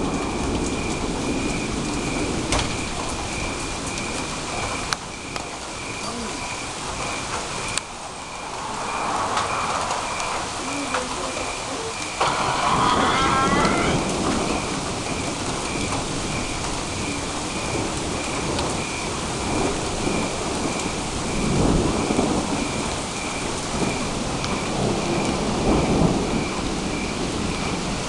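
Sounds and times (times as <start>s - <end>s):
heavy rain falling: 0.0s - 28.0s
thunder rumbling: 0.0s - 28.0s.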